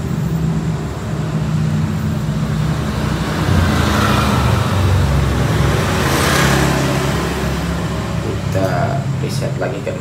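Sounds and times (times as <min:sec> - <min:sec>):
traffic noise: 0:00.0 - 0:10.0
vehicle engine running: 0:00.0 - 0:10.0.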